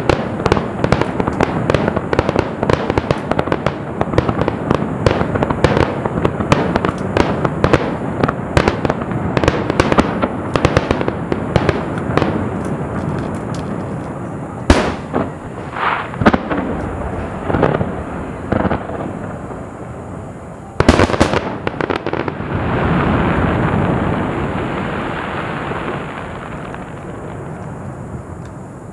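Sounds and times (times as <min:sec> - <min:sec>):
fireworks bangs and cracks: 0:00.0 - 0:28.9.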